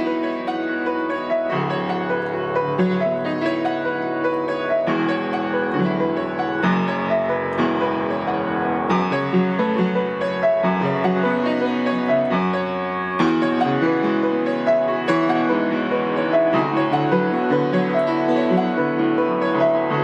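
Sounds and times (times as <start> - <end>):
piano chords ringing: 0.0 - 20.0.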